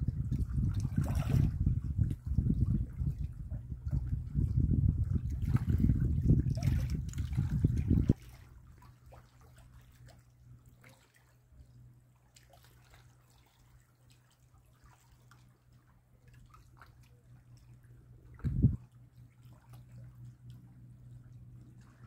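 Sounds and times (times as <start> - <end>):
low hum: 0.0 - 12.9, 15.5 - 22.0.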